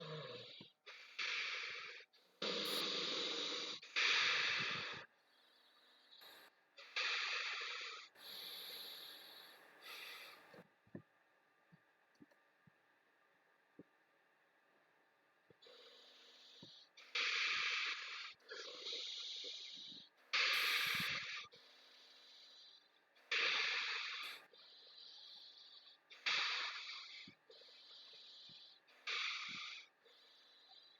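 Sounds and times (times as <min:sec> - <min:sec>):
person breathing heavily: 0:00.0 - 0:10.6, 0:15.6 - 0:30.9.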